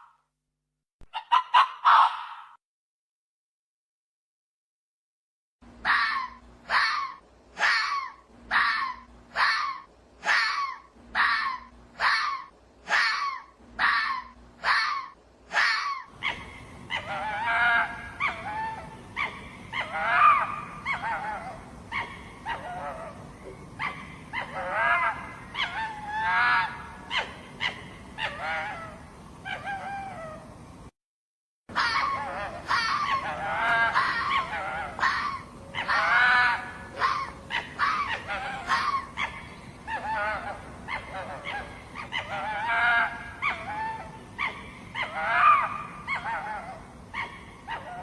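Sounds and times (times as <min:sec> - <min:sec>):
fox yelping barks: 0:01.1 - 0:02.6, 0:05.8 - 0:30.4, 0:31.7 - 0:48.0.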